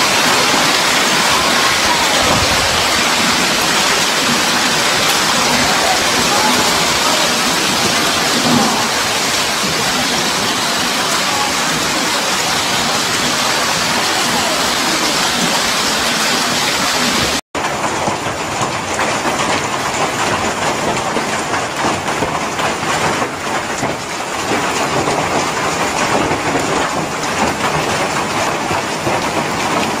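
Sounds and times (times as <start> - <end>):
hail and heavy rain: 0.0 - 30.0.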